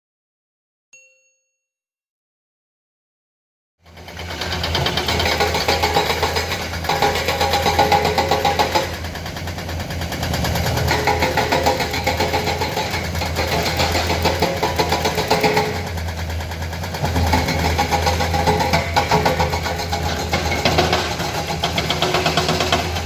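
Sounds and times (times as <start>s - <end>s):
excavator diesel engine: 3.8s - 23.0s
hydraulic breaker hammer pounding: 3.8s - 23.0s.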